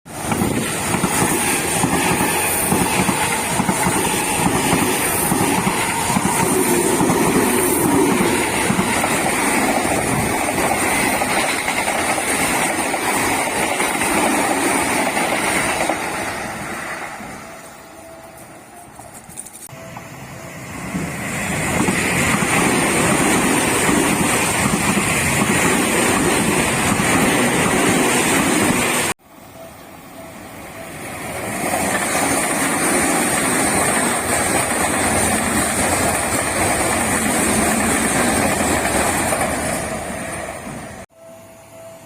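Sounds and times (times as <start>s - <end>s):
train wheels rumbling on rails: 0.1s - 17.4s, 18.4s - 29.2s, 30.8s - 41.1s.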